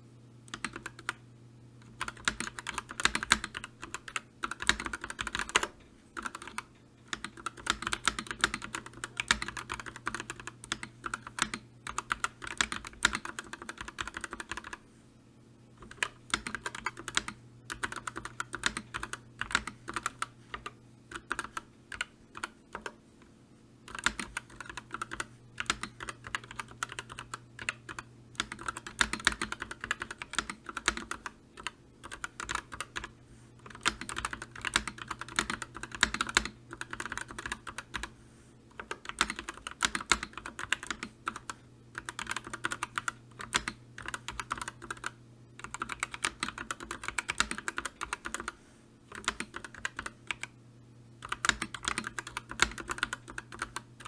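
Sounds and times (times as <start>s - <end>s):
typing on computer keyboard: 0.5s - 1.2s, 1.8s - 14.8s, 15.8s - 23.0s, 23.9s - 38.1s, 38.7s - 50.5s, 51.2s - 54.0s.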